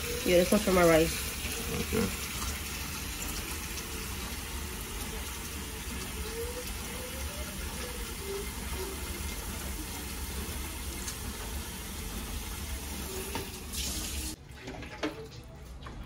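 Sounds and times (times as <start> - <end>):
faucet water running into pot: 0.0 - 15.2.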